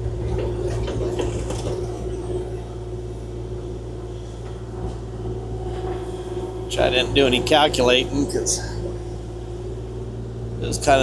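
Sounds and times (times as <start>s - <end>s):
excavator diesel engine whining: 0.0s - 11.0s.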